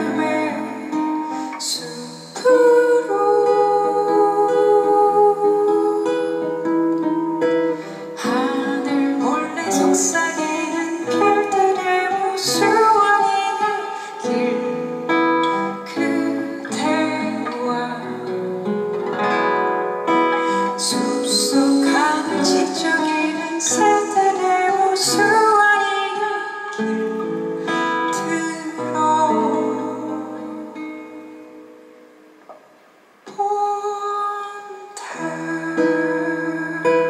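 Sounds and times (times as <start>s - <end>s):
woman singing: 0.0s - 19.4s, 20.0s - 31.7s, 33.2s - 37.0s
guitar playing: 0.0s - 37.0s.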